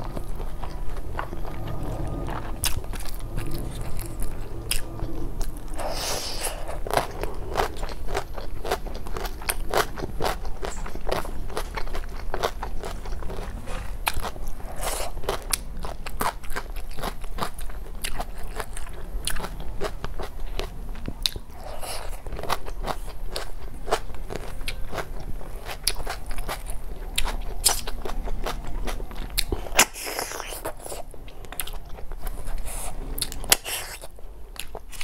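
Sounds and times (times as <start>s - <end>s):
person chewing and biting: 0.0s - 35.0s.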